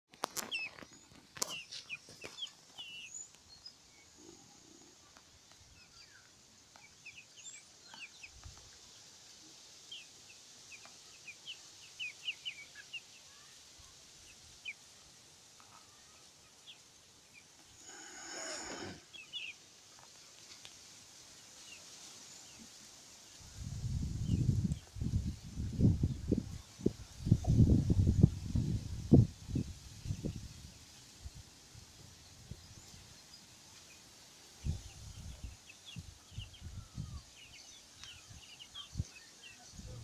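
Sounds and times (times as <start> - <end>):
faint birdsong: 0.1 - 40.0
steady high hiss: 2.8 - 39.9.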